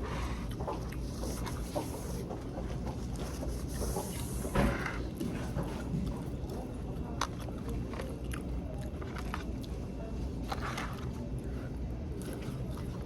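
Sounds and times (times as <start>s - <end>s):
chewing crunchy fried fish: 0.0s - 13.0s.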